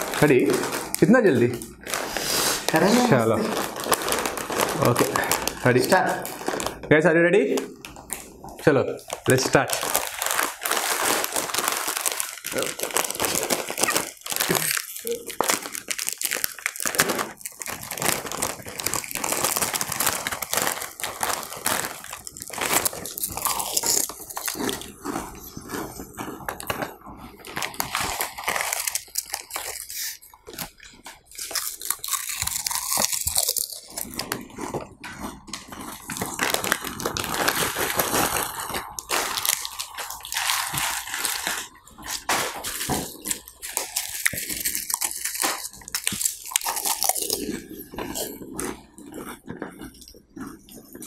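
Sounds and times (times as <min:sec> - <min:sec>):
people crunching potato chips: 0:00.0 - 0:51.0.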